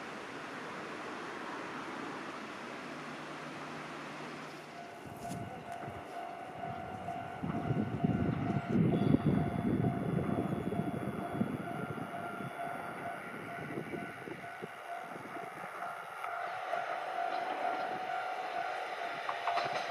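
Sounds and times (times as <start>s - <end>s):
train rumbling with high whine: 0.0s - 19.9s.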